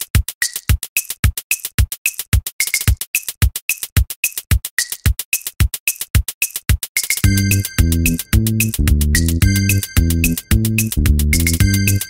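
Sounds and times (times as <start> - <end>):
drum machine kicks: 0.0 - 12.0
hi-hat ticks: 0.0 - 12.0.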